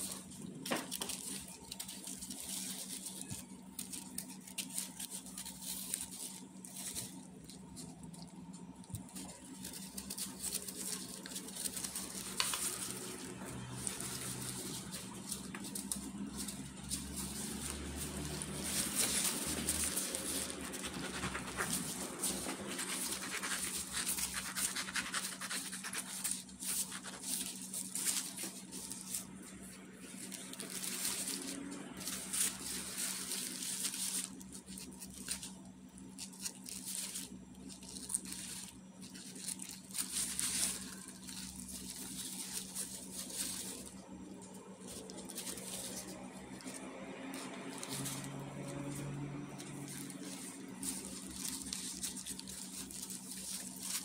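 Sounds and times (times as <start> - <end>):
faint low hum: 0.0 - 54.0
plastic gloves rustling: 0.0 - 54.0.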